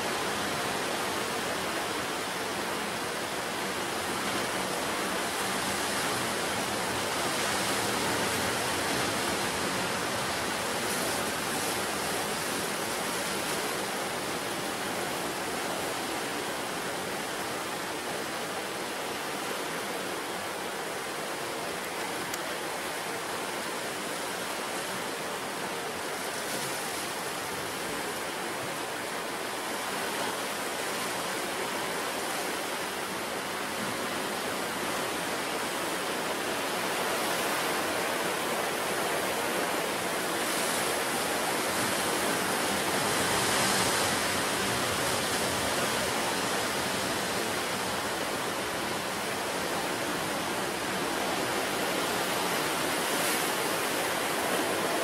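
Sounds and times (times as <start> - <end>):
ocean surf washing onto shore: 0.0 - 55.0.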